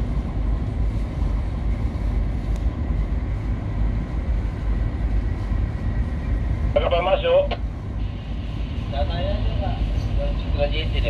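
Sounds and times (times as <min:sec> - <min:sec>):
ship engine rumbling: 0:00.0 - 0:11.0.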